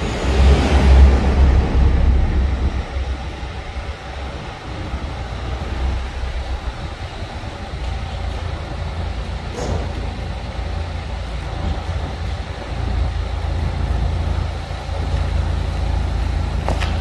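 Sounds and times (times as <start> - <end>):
deep car exhaust rumble: 0.0 - 17.0.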